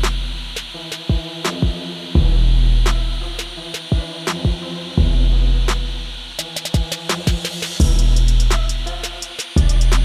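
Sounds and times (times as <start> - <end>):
music with drum-machine beat: 0.0 - 10.0.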